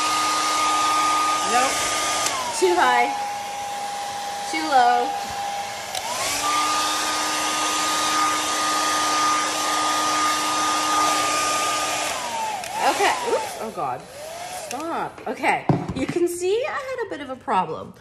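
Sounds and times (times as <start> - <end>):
hair dryer blowing: 0.0 - 15.9.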